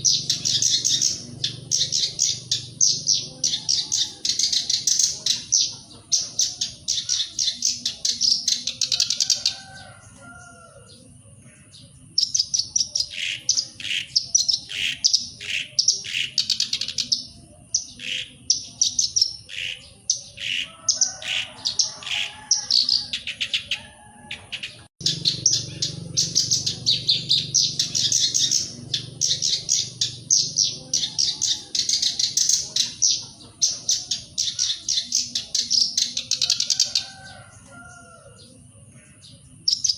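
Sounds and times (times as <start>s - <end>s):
reed warbler singing: 0.0s - 39.9s.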